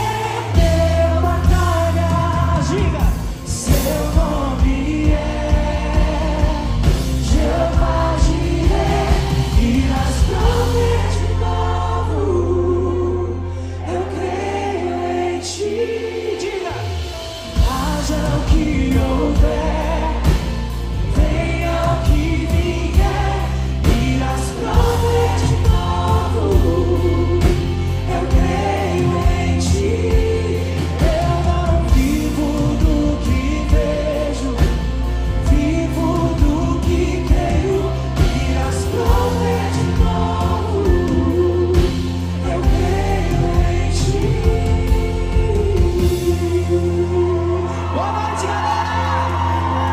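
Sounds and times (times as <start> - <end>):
man singing into microphone: 0.0 - 8.4, 14.9 - 20.4, 21.1 - 49.9
heavy bass: 0.0 - 15.2, 15.8 - 49.9
backing singers: 0.0 - 49.9.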